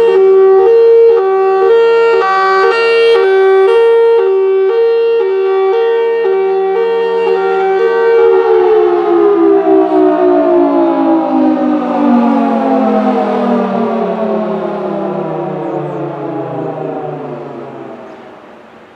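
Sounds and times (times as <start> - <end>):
tornado warning siren: 0.0 - 18.9.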